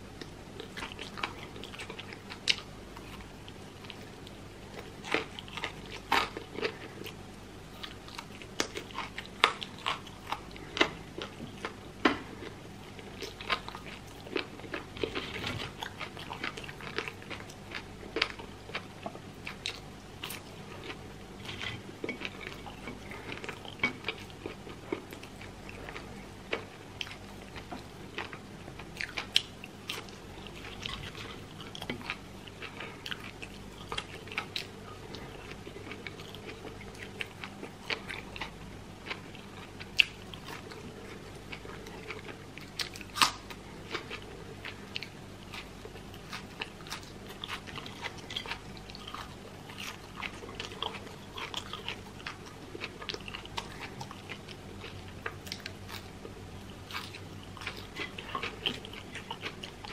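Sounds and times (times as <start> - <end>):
crunchy chewing: 0.2 - 59.9.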